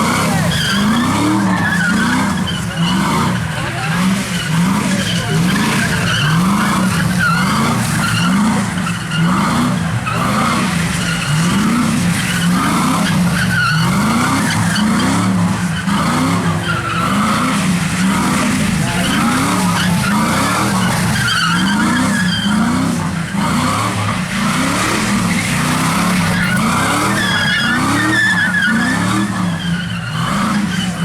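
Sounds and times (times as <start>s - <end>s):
car engine revving: 0.0s - 31.0s
tyres spinning and skidding: 0.0s - 31.0s.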